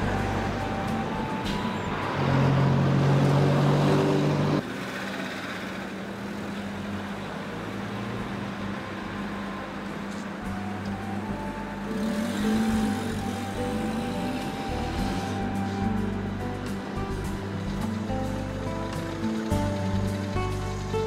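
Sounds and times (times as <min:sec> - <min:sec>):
street hum: 0:00.0 - 0:21.0
vehicles driving past: 0:00.0 - 0:21.0.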